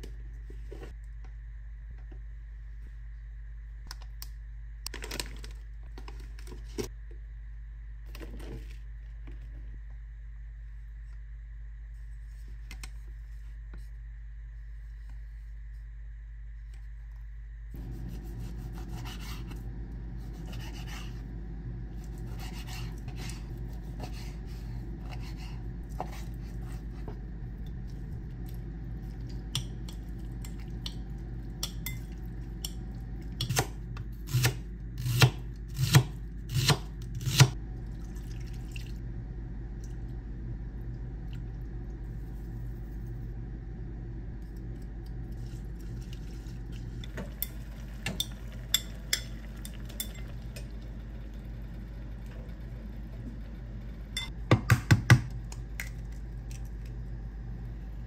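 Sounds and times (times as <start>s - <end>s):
low hum: 0.0s - 54.5s, 55.3s - 58.0s.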